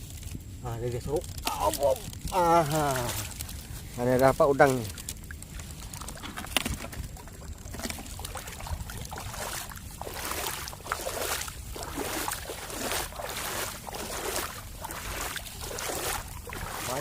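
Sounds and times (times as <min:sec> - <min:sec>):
seawater sloshing and splashing: 0:01.1 - 0:17.0.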